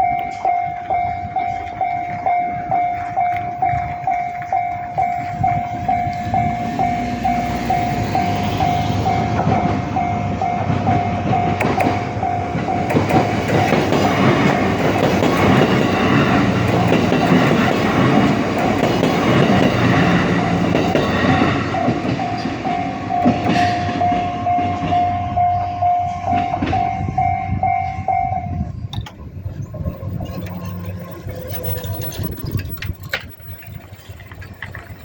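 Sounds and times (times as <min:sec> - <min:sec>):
train wheels clattering on rails: 0:00.0 - 0:29.2
level crossing warning bell: 0:00.0 - 0:35.0.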